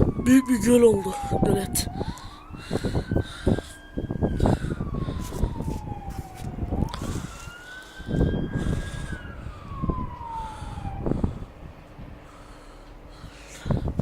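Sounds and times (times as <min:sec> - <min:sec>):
low rumbles: 0:00.0 - 0:14.0
siren wailing: 0:00.0 - 0:14.0.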